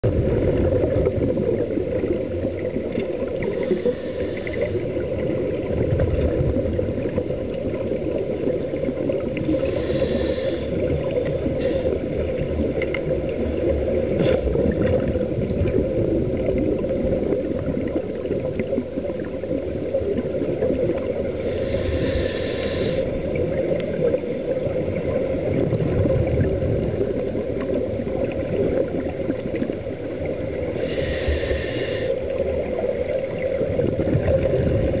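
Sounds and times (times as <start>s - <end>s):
low underwater rumbling: 0.0s - 35.0s
regulator bubbles hissing: 0.1s - 35.0s.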